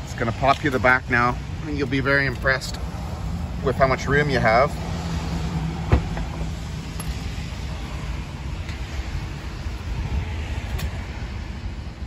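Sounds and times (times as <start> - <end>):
traffic noise: 0.0 - 12.0
wind: 0.0 - 12.0.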